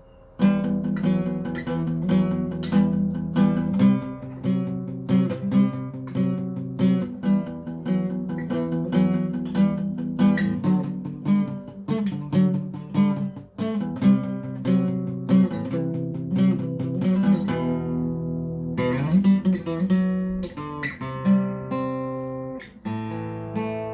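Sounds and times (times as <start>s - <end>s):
acoustic guitar strumming chords: 0.0s - 23.9s.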